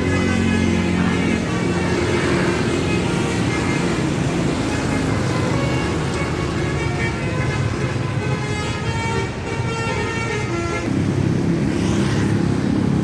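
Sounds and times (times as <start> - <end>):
multi-tone bus horn tune: 0.0 - 11.0.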